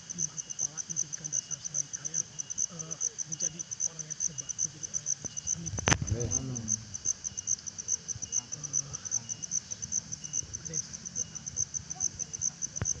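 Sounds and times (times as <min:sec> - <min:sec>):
faint murmuring voices: 0:00.0 - 0:13.0
insects chirping: 0:00.0 - 0:13.0.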